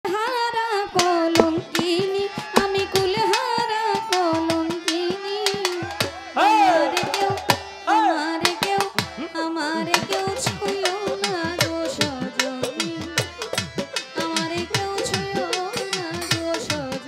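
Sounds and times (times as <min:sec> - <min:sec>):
woman singing into a microphone: 0:00.1 - 0:17.0
hand drum beating: 0:01.0 - 0:06.2, 0:06.9 - 0:07.7, 0:08.4 - 0:17.0.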